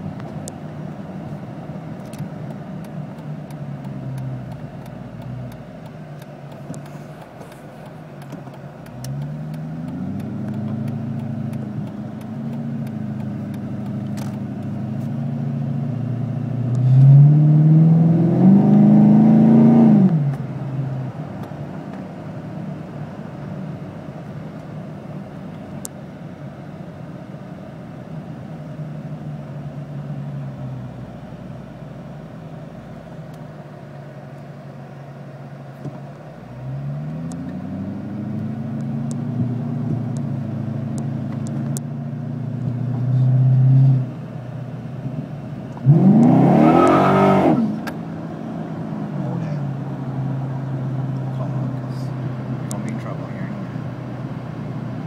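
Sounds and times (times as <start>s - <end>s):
car engine revving: 0.0s - 25.8s, 28.4s - 55.0s.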